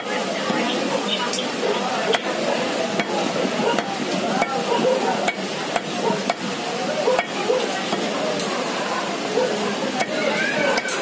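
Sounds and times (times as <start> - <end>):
faint voices: 0.0 - 11.0
market background noise: 0.0 - 11.0.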